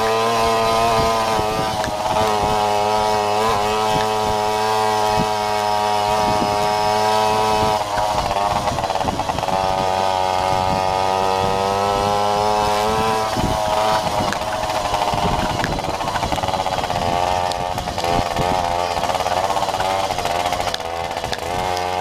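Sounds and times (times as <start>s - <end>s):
two-stroke moped engine revving: 0.0s - 22.0s.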